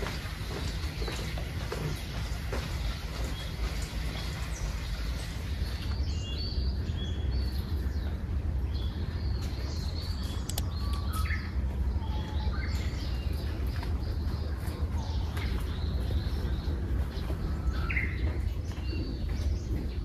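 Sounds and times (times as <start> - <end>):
birds chirping: 0.0 - 20.0
low outdoor rumble: 0.0 - 20.0
lower falling bird calls: 0.0 - 20.0.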